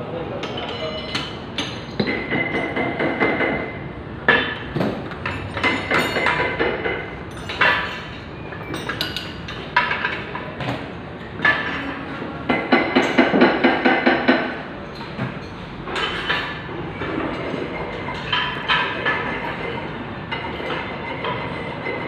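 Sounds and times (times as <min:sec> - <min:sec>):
tools and metal parts clinking: 0:00.4 - 0:03.5, 0:04.3 - 0:11.9, 0:14.8 - 0:22.0.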